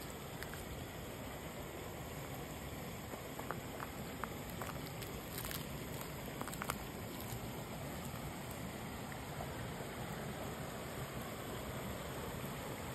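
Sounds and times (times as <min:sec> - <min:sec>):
stream of running water: 0:00.0 - 0:12.9.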